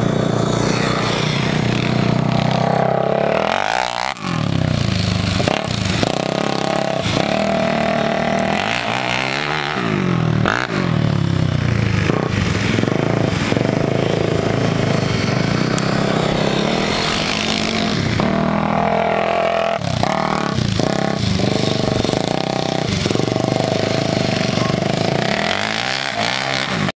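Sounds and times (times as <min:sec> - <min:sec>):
dirt bike engines revving: 0:00.0 - 0:26.9.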